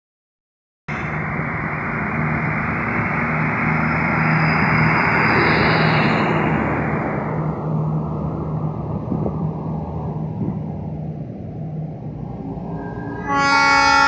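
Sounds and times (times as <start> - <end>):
diesel locomotive humming: 0.9 - 14.0.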